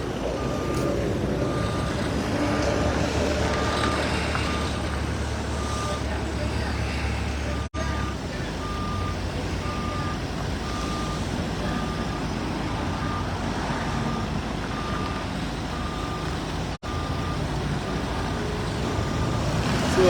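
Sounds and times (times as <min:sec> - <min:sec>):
engine and yard rumble: 0:00.0 - 0:20.0
reversing alarm beeping: 0:00.2 - 0:19.4.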